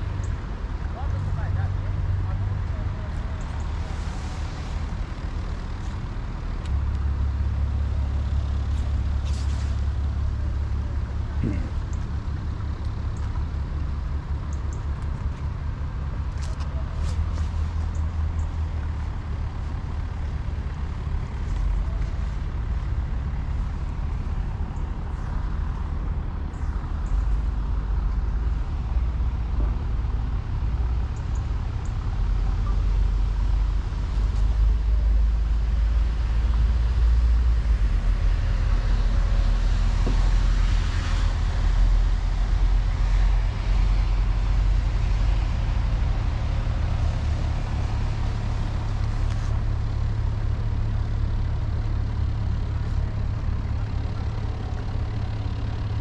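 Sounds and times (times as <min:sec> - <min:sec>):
low engine rumble: 0:00.0 - 0:56.0.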